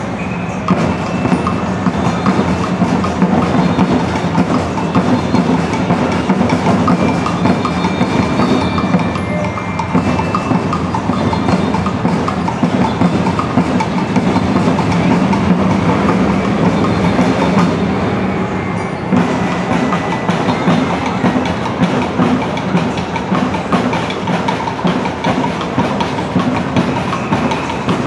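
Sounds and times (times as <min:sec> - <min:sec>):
low rumble of street noise: 0:00.0 - 0:28.0
parade drumming: 0:00.6 - 0:18.1, 0:19.1 - 0:28.0.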